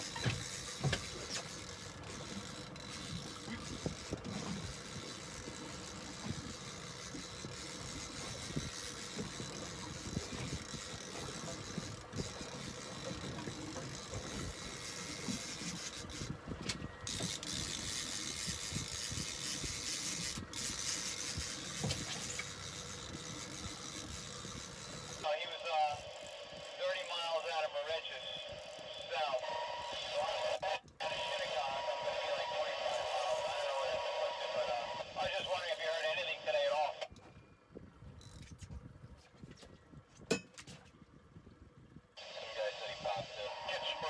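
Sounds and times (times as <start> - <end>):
water noise: 0.0 - 37.4, 38.4 - 44.0
outboard engine running: 0.0 - 44.0.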